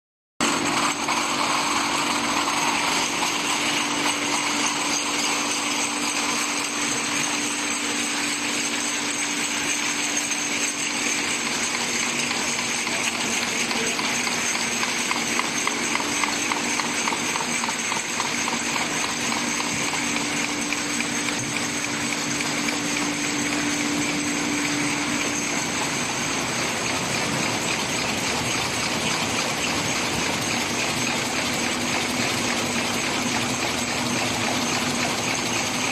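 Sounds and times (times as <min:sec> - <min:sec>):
machine hum: 0:00.4 - 0:35.9
machine mechanical clatter: 0:00.4 - 0:35.9.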